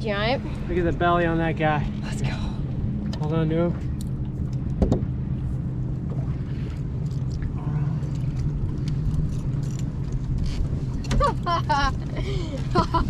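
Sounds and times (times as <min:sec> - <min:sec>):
boat motor humming: 0:00.0 - 0:13.0
water noise: 0:00.0 - 0:13.0
wind: 0:00.0 - 0:13.0.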